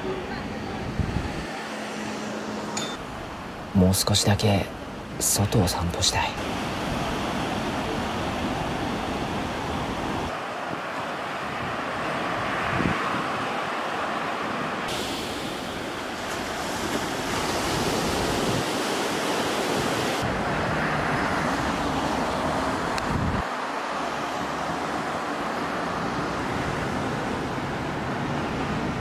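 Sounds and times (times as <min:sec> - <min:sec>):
sea waves: 0:00.0 - 0:03.7, 0:04.3 - 0:29.0
road traffic: 0:00.0 - 0:29.0
wind on microphone: 0:00.2 - 0:01.6, 0:06.6 - 0:29.0.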